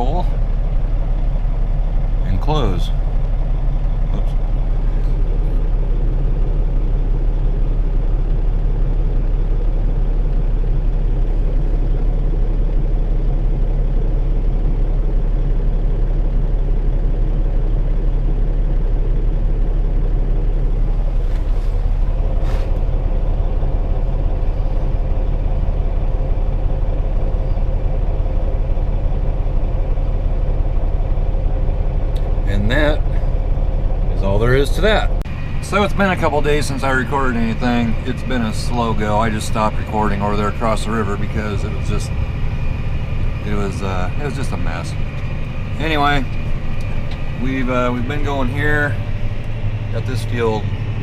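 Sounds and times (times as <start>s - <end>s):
steady higher hum: 0.0s - 51.0s
truck engine running: 0.0s - 51.0s.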